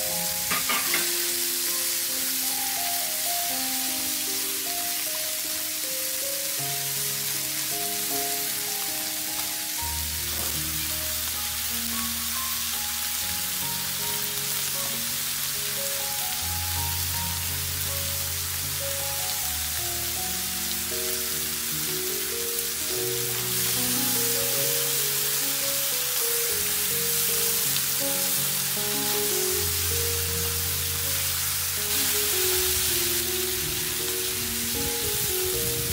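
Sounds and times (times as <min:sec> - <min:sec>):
background music: 0:00.0 - 0:35.9
food sizzling in frying pan: 0:00.0 - 0:35.9.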